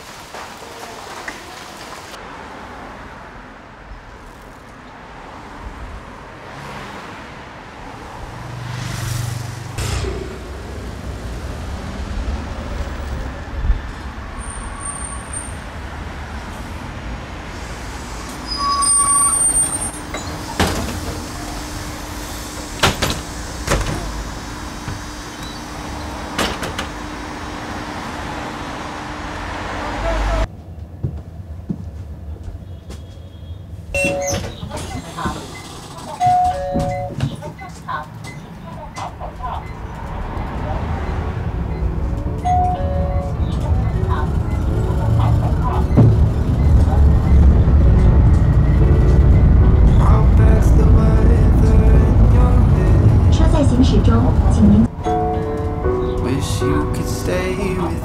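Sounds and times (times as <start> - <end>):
vehicle engine rumble: 2.0 - 58.0.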